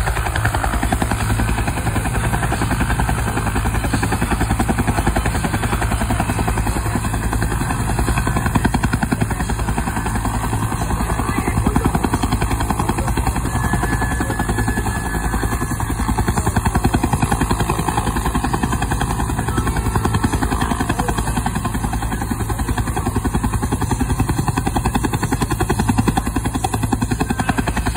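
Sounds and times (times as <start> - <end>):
helicopter rotor chop and turbine: 0.0 - 27.9.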